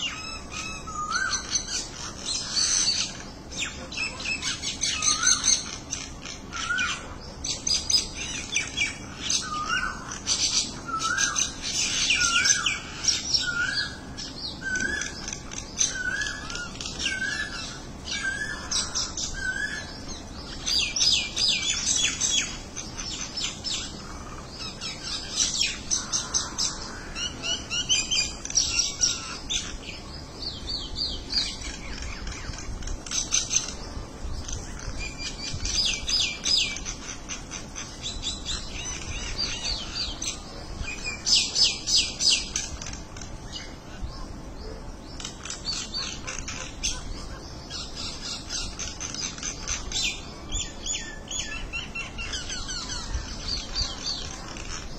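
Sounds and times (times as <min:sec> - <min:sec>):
birds chattering and squawking: 0:00.0 - 0:54.9.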